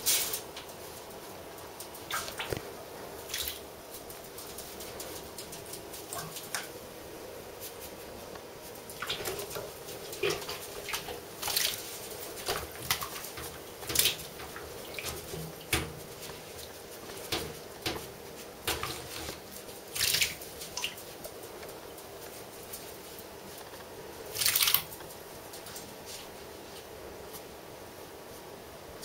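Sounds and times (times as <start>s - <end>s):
ferret scrambling in bathtub: 0.0s - 26.8s.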